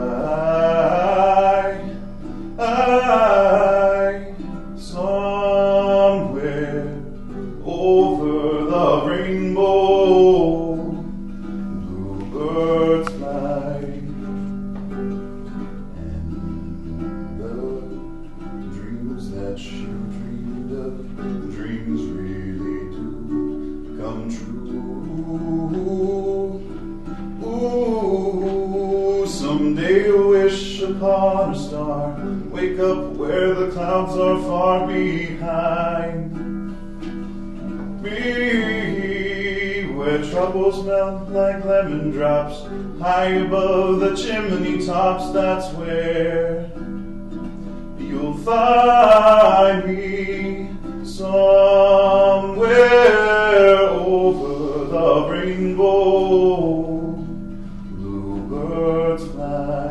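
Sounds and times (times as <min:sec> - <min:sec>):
man singing wordlessly: 0:00.0 - 0:59.9
ukulele strumming: 0:00.0 - 0:59.9.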